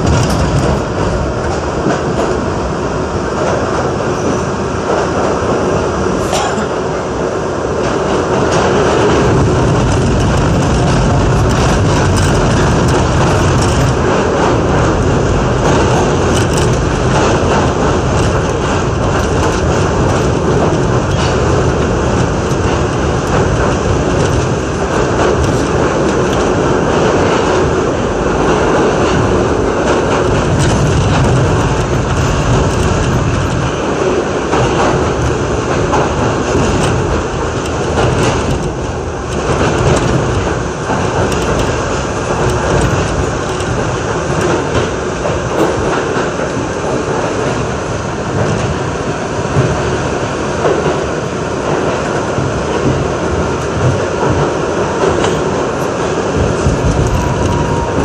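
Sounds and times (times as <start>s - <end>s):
clicks over rail joints: 0.0s - 7.0s, 7.8s - 58.0s
subway train wheel and rail rumble: 0.0s - 58.0s.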